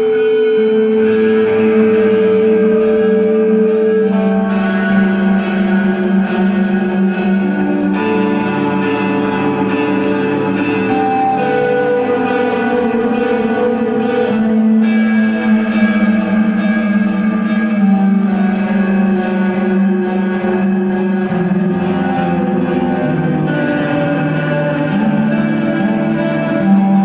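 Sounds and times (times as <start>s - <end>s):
echo-laden electric guitar: 0.0s - 27.0s
rock band playing live: 0.0s - 27.0s.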